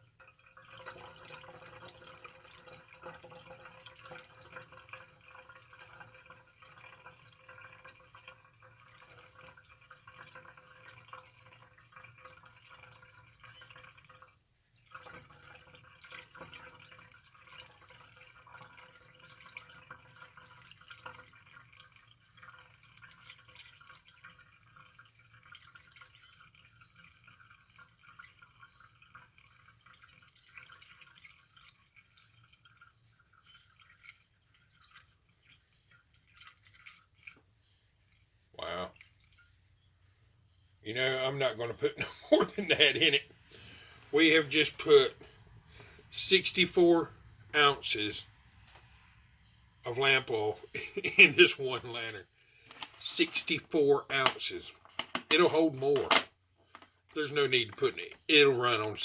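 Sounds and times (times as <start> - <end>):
oil trickling through funnel: 0.0 - 59.0.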